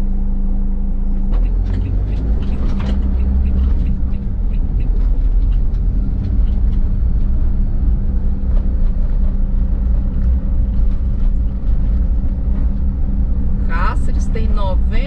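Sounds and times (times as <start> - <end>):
car engine and tyres rumbling: 0.0 - 15.0
faint steady whine: 0.0 - 15.0.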